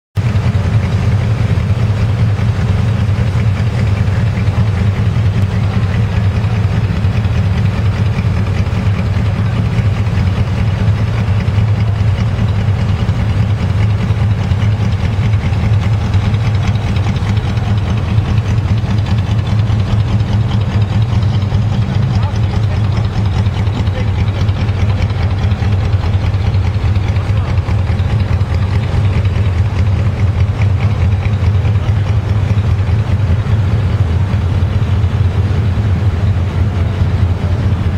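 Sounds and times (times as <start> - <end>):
car engines idling: 0.2 - 37.9.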